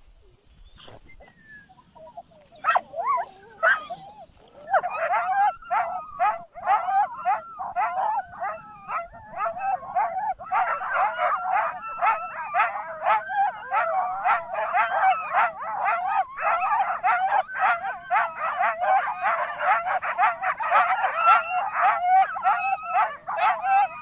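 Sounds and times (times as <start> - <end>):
dog yapping and yelping: 1.2 - 24.0.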